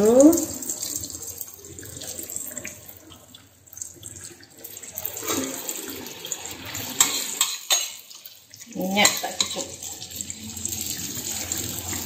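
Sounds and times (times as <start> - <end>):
dough deep-frying in oil: 0.0 - 12.0.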